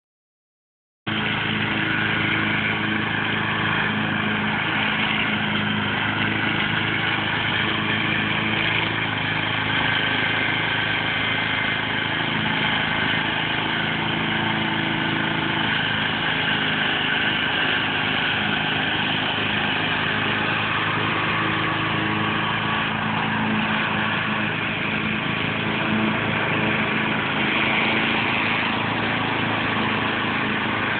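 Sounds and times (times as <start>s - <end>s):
lawn mower engine running: 1.1s - 30.9s.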